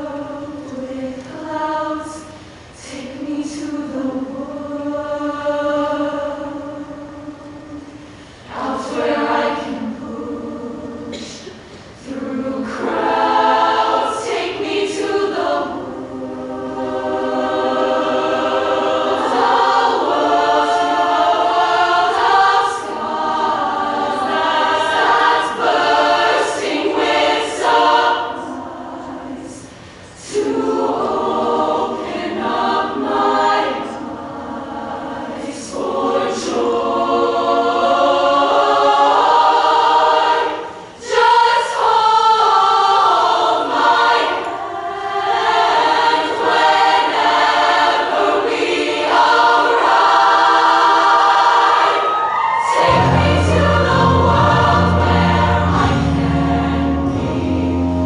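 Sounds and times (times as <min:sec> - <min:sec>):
women's choir singing in harmony: 0:00.0 - 0:58.0.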